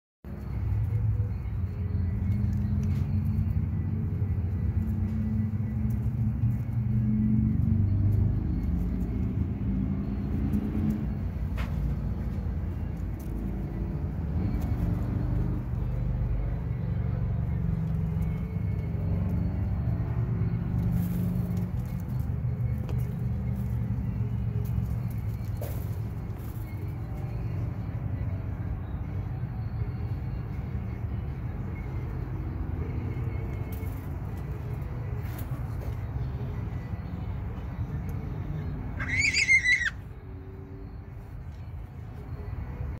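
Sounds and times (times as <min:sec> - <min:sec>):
low outdoor rumble: 0:00.3 - 0:42.9.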